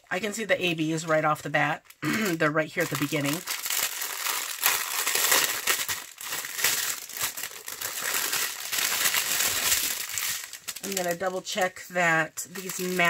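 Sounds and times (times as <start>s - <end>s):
plastic bags crinkling: 0.2s - 13.0s.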